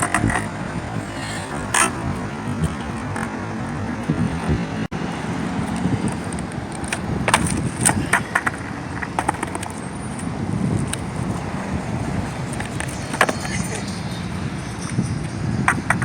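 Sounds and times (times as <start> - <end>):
skateboard clacking on ground: 0.0 - 16.0
skateboard wheels rolling on pavement: 0.0 - 16.0.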